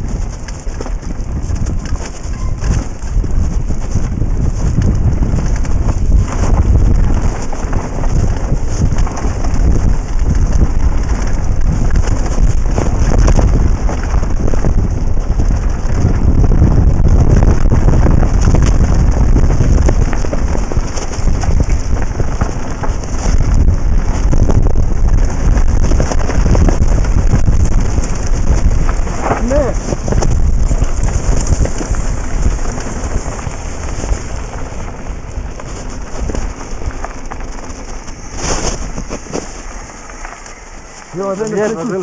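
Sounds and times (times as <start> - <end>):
bike rattles and clicks: 0.0 - 42.0
deep rumble: 0.0 - 42.0
wind buffeting microphone: 0.0 - 42.0.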